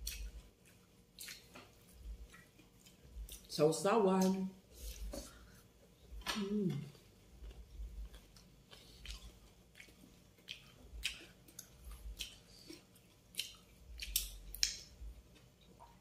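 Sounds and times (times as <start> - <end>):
person chewing food: 0.0 - 3.5, 4.7 - 16.0.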